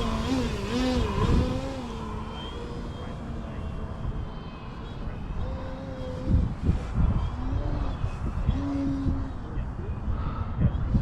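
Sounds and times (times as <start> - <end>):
model airplane propeller humming: 0.0 - 10.9
wind rumble on microphone: 0.0 - 11.0.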